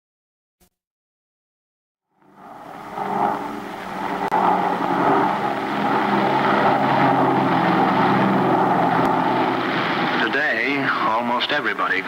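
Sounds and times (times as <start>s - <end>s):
propeller aircraft engines droning: 2.1s - 12.0s.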